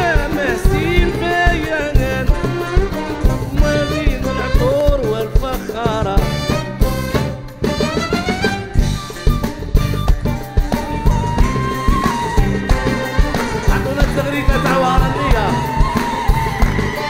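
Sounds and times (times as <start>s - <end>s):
band playing a popular song: 0.0s - 17.0s.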